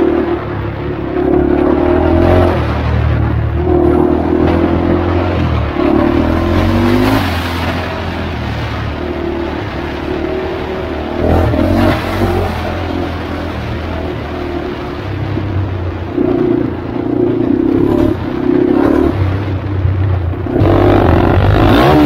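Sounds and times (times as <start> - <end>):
wind and trail noise: 0.0 - 22.0.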